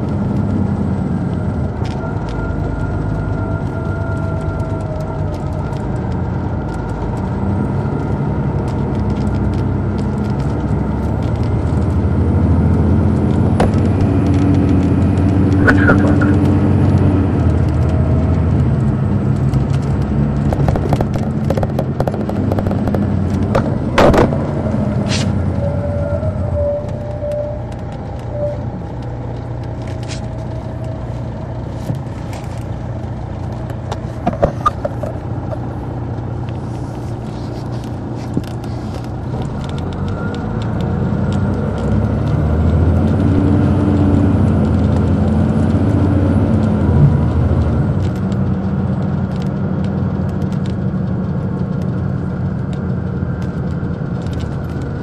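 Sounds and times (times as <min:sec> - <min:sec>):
diesel coach engine running: 0:00.0 - 0:55.0.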